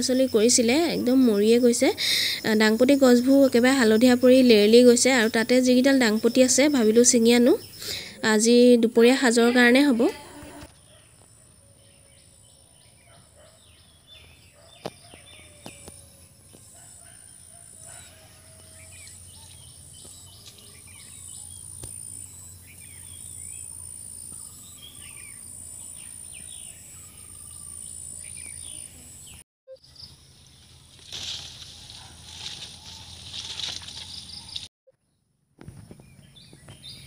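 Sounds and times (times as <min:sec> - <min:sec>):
birds chirping: 0:00.0 - 0:30.8, 0:32.8 - 0:34.7.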